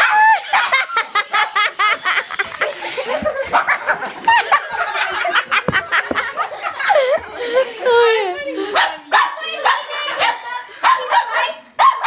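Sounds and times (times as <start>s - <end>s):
people laughing and giggling: 0.0s - 11.2s.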